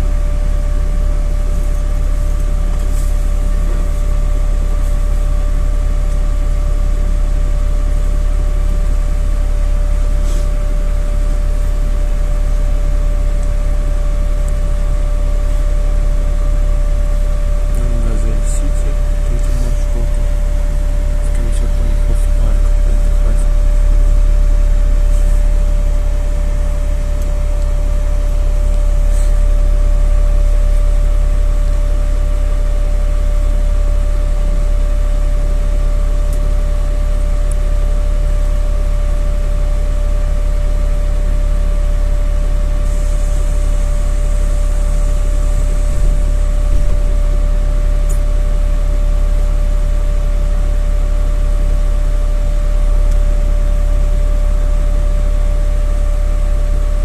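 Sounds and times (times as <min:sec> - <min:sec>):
bus engine rumble: 0:00.0 - 0:57.0
constant hum: 0:00.0 - 0:57.0.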